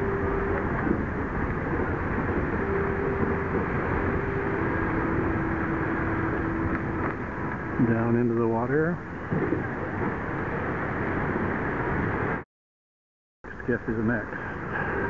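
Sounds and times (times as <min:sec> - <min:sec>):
faint steady hum: 0:00.0 - 0:12.3
wind rumble on microphone: 0:00.0 - 0:12.4.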